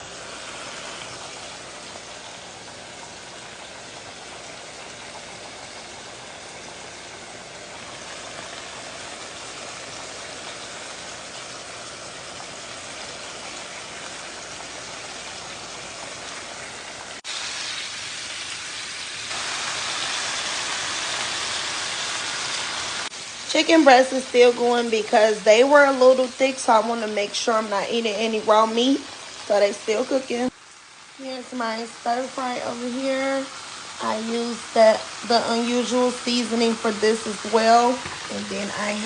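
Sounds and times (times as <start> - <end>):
food sizzling in a hot pan: 0.0 - 39.0.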